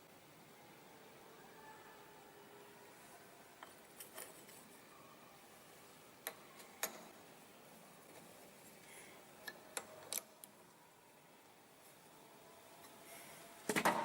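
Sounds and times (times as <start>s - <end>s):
faint background hum: 0.0s - 14.0s.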